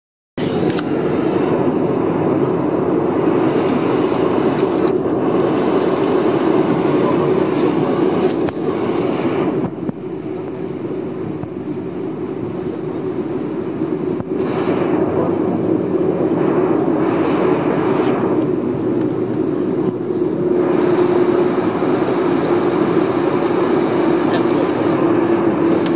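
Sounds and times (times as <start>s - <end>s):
aircraft cabin drone and air hiss: 0.4s - 25.9s
low hum: 0.4s - 25.9s.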